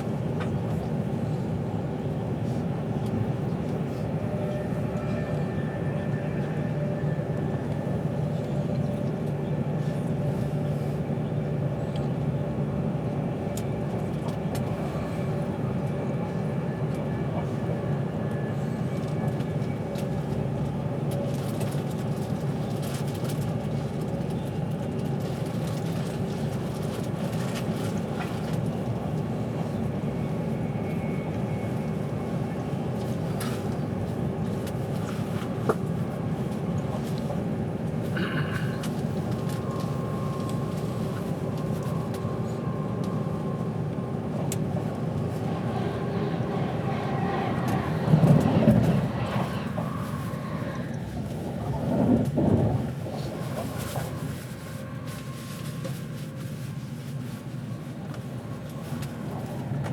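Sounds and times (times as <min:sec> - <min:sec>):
train rumble and hum: 0:00.0 - 0:59.9.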